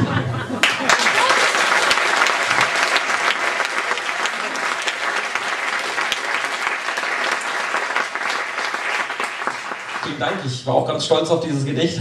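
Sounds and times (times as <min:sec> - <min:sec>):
audience applauding: 0:00.5 - 0:10.6.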